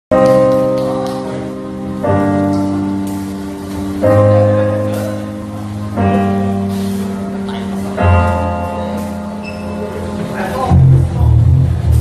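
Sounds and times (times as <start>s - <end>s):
keyboard piano chords: 0.1s - 12.0s.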